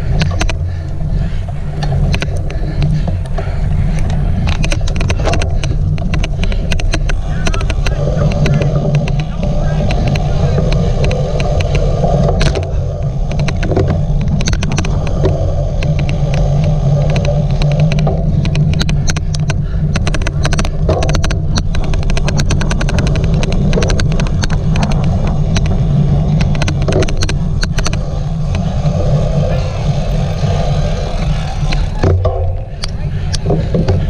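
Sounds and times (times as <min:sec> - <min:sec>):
sharp irregular clicking: 0:00.0 - 0:34.0
wind and riding noise: 0:00.0 - 0:34.0.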